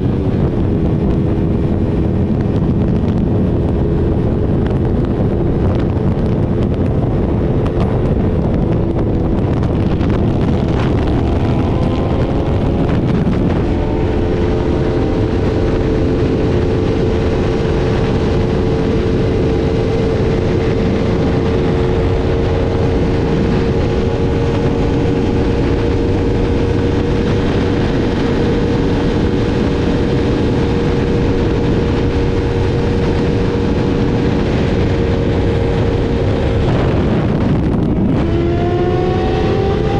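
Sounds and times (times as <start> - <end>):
motorcycle engine running hard: 0.0 - 39.9
wind noise on microphone: 0.0 - 39.9.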